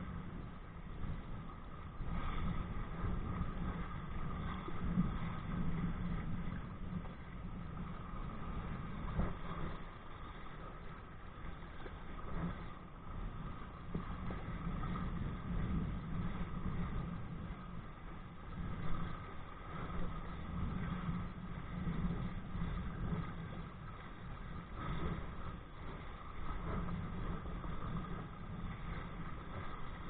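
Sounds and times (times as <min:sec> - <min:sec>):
water rushing past hull: 0:00.0 - 0:30.0
wind buffeting microphone: 0:00.0 - 0:30.0.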